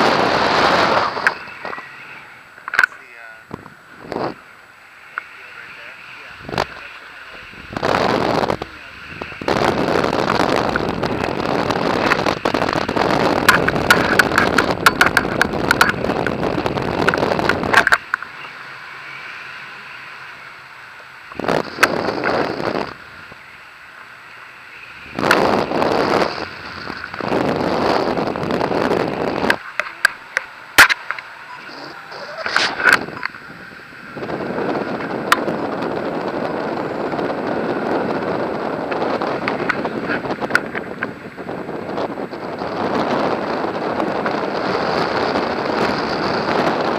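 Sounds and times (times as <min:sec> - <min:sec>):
wind buffeting microphone: 0:00.0 - 0:18.3, 0:21.3 - 0:23.6, 0:24.8 - 0:46.9.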